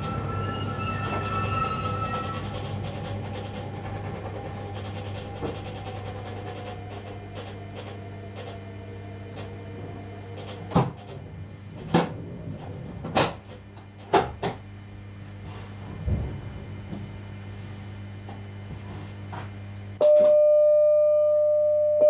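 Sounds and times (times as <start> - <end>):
train traction whine: 0.0 - 19.5
electrical hum: 0.0 - 22.0.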